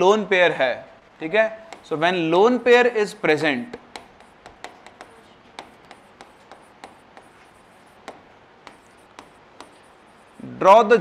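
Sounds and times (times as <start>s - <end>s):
chalk tapping and scratching on board: 1.6s - 10.6s.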